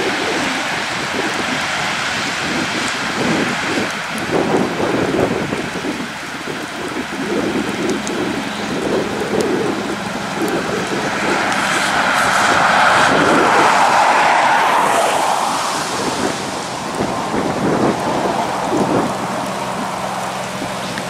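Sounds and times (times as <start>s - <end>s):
car tyres hissing on wet road: 0.0s - 21.0s
rain: 0.0s - 21.0s
wind buffeting microphone: 0.0s - 21.0s.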